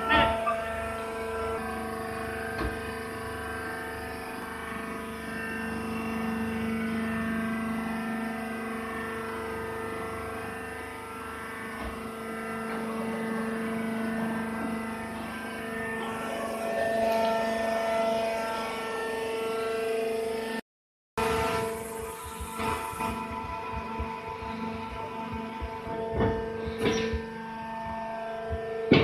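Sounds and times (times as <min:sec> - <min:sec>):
machine drone: 0:00.0 - 0:20.6, 0:21.2 - 0:29.0.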